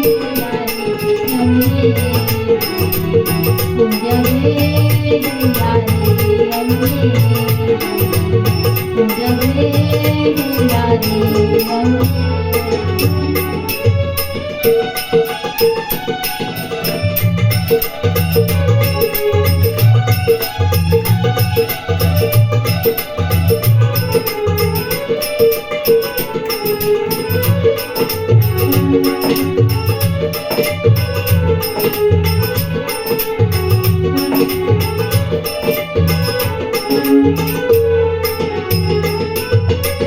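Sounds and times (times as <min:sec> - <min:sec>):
jingling percussion: 0:00.0 - 0:40.0
wavering melodic instrument: 0:00.0 - 0:40.0.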